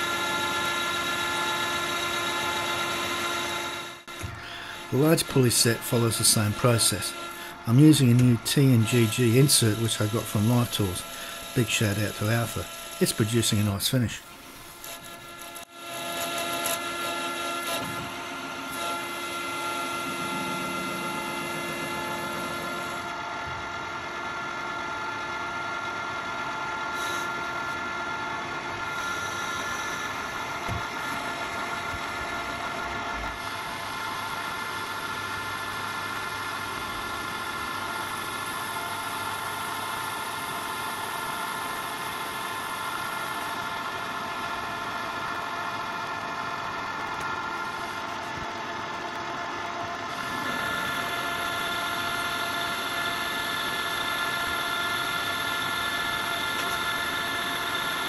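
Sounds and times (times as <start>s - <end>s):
metal lathe whine: 0.0s - 58.0s.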